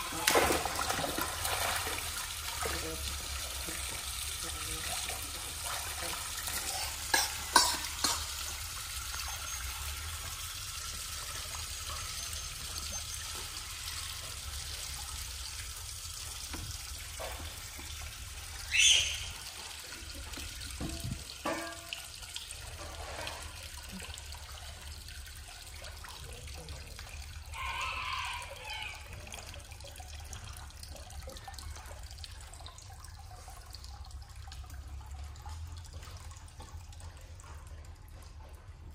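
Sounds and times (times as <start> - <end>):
water running and splashing: 0.0 - 38.9.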